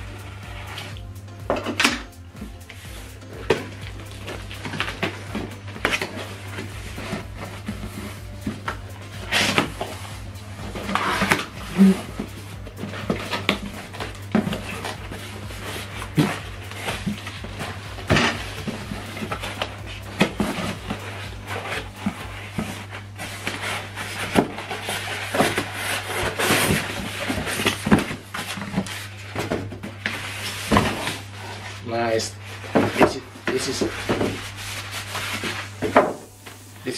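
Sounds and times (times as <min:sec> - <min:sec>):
foam scraping in cardboard box: 0:00.0 - 0:01.0, 0:02.5 - 0:36.9
steady low hum: 0:00.0 - 0:36.9.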